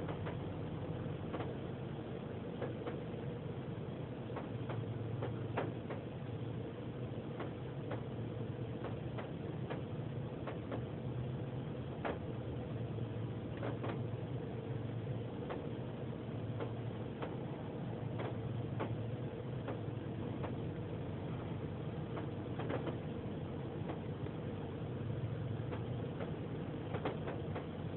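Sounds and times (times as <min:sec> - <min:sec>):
low car wash hum: 0:00.0 - 0:27.9.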